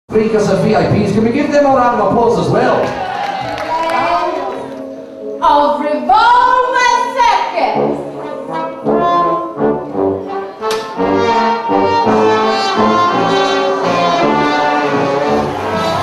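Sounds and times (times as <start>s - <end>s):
brass band music: 0.1s - 5.5s, 6.8s - 16.0s.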